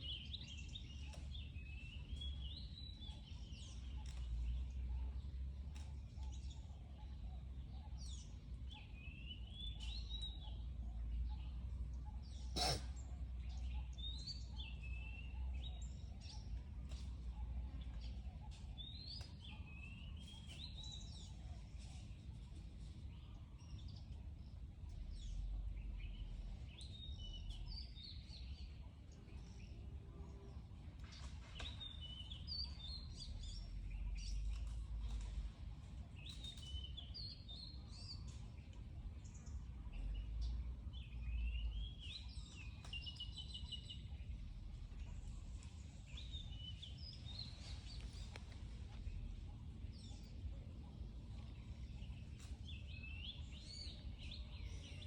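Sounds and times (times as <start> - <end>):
birds chirping and singing: 0.0 - 55.0
low outdoor rumble: 0.0 - 55.0.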